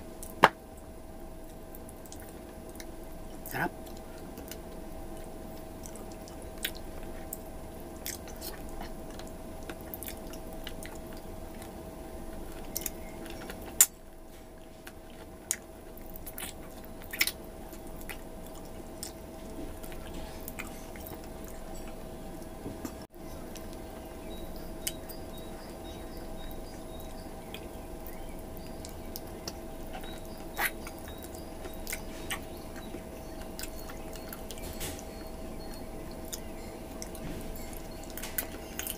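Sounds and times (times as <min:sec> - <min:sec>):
faint steady hum: 0:00.0 - 0:38.9
chewing and biting on meat: 0:01.4 - 0:38.9.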